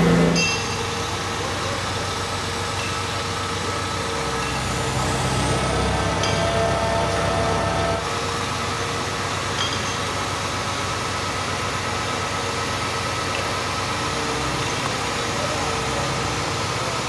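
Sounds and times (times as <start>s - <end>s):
construction machinery engines humming: 0.0s - 17.0s.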